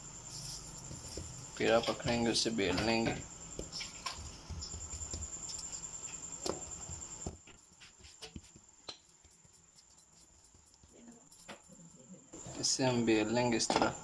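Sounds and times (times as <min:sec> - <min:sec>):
hands patting dough: 0:00.4 - 0:12.0.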